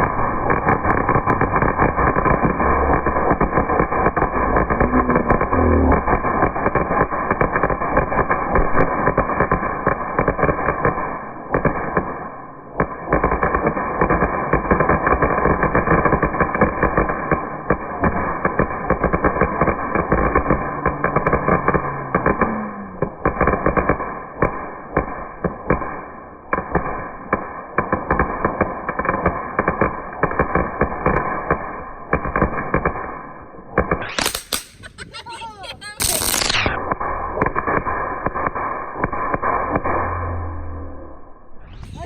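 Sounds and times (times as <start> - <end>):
fireworks crackling and popping: 0.0 - 42.0.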